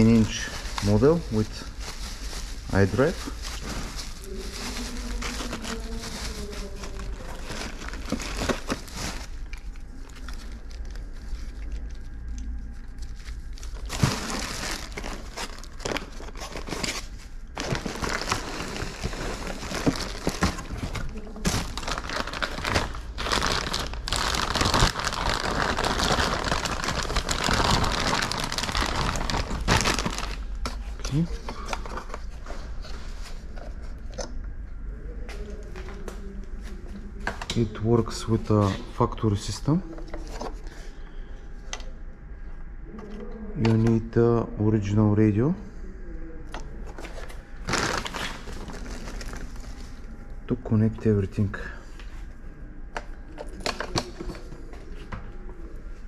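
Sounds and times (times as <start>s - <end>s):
plastic crinkling and rustling: 0.0s - 34.4s, 35.1s - 42.0s, 46.4s - 50.4s, 51.3s - 56.0s
steady low hum: 0.0s - 56.0s.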